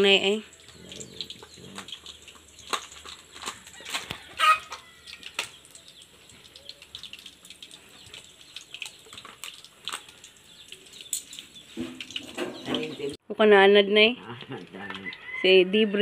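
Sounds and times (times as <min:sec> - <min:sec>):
oil bubbling and crackling: 0:00.0 - 0:13.2.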